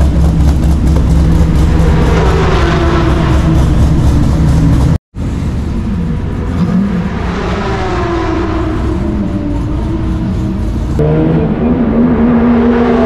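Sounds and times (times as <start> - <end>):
race car engine at low revs: 0.0 - 13.0.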